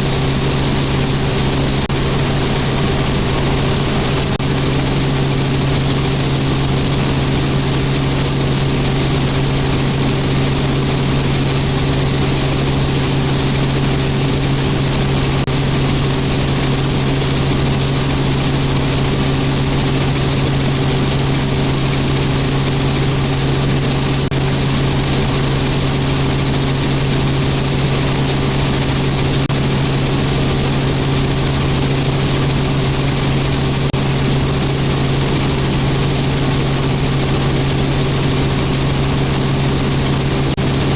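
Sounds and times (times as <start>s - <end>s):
helicopter in flight: 0.0s - 40.9s.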